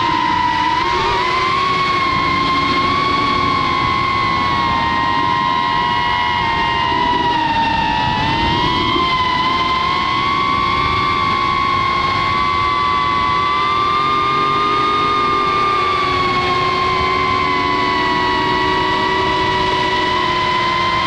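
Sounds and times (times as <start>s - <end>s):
drone motors whining: 0.0s - 21.0s
rushing noise: 0.0s - 21.0s.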